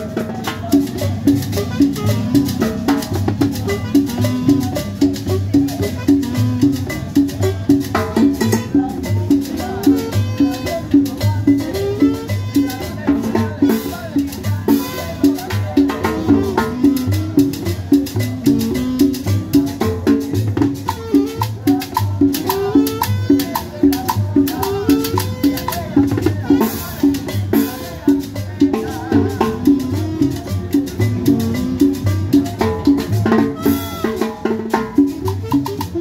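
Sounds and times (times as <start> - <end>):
hand drums: 0.0 - 36.0
live band playing salsa: 0.0 - 36.0
plucked upright bass: 0.0 - 36.0.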